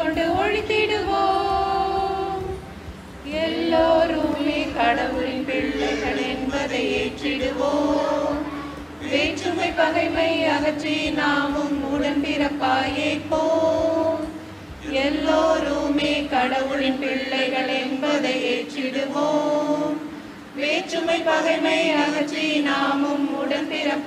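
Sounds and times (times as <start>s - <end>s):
women singing together: 0.0s - 24.0s.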